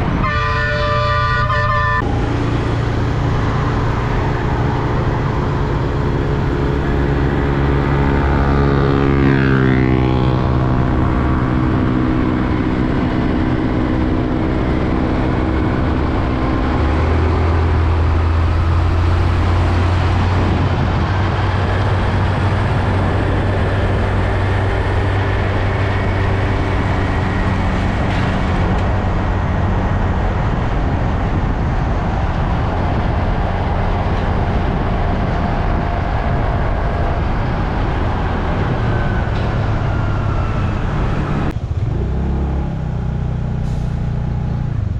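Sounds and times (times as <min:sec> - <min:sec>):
road noise: 0:00.0 - 0:44.9
truck engines running: 0:00.0 - 0:44.9.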